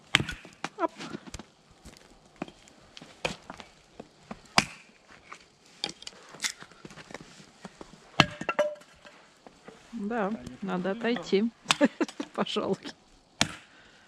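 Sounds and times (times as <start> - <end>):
firewood knocking: 0.0 - 13.7.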